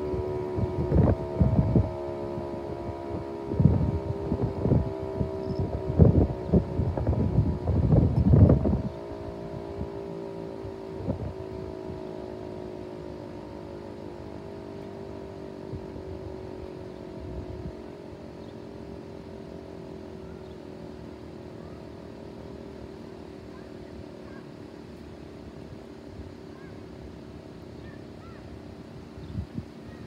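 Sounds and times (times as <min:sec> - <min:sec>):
wind rumble on microphone: 0:00.0 - 0:24.4, 0:28.2 - 0:30.0
warning siren steady chord: 0:00.0 - 0:30.0.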